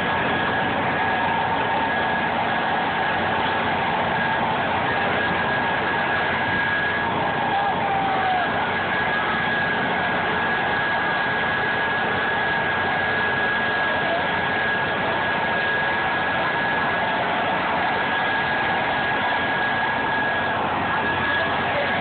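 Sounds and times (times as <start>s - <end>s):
motor running with high whine: 0.0s - 22.0s.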